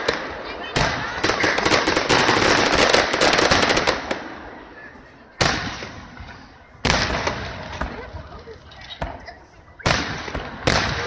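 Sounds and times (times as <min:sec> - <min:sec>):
fireworks crackling pops: 0:00.0 - 0:04.3, 0:05.4 - 0:11.0.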